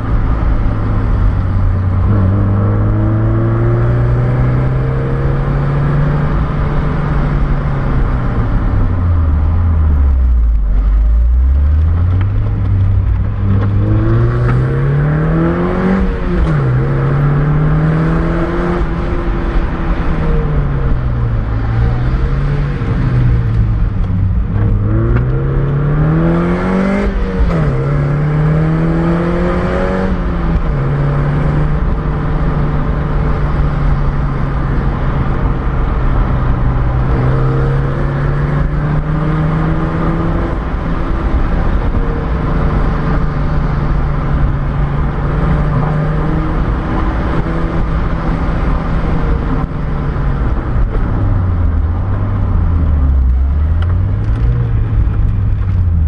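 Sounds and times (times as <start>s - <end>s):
car engine revving: 0.0s - 56.0s
road noise: 0.0s - 56.0s.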